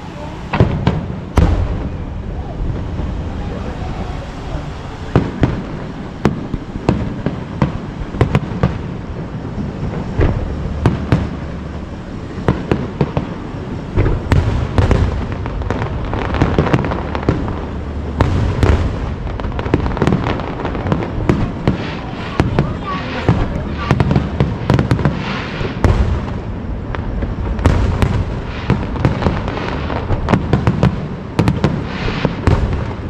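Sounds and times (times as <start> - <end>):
fireworks rumble and crackle: 0.0 - 33.0.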